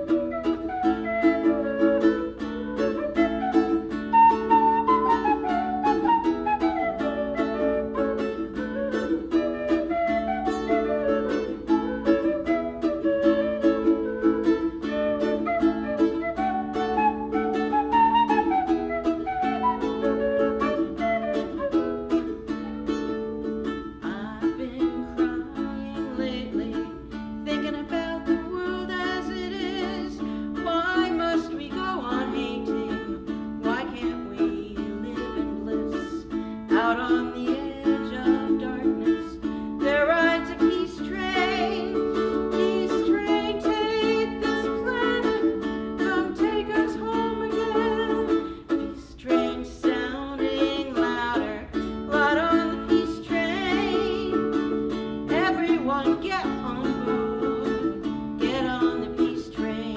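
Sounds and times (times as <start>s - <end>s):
ukulele strumming chords: 0.0s - 59.9s
woman singing: 0.0s - 59.9s.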